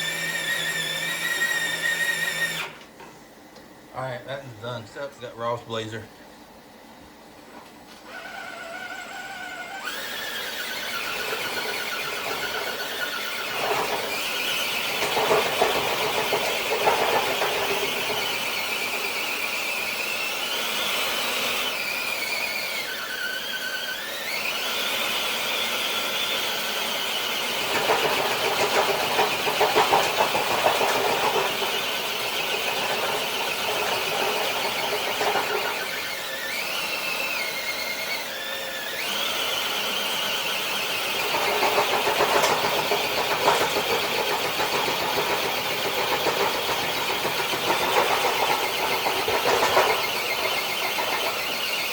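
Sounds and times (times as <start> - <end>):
electric motor and gears whining: 0.0 - 3.0, 7.9 - 51.9.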